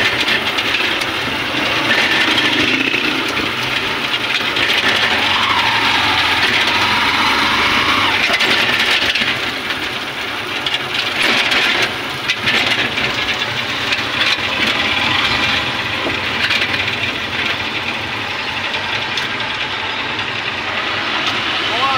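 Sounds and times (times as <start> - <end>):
motorcycle engine running: 0.0 - 21.9
road noise: 0.0 - 21.9.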